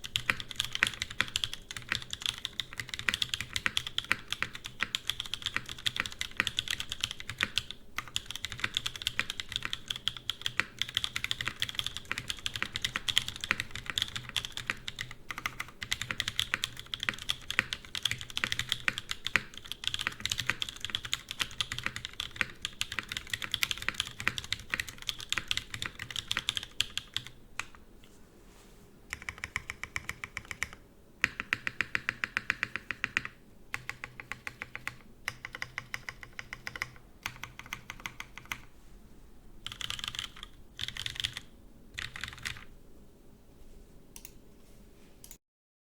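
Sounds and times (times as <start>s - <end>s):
mechanical keyboard typing: 0.0s - 27.8s, 29.1s - 38.7s, 39.6s - 42.7s.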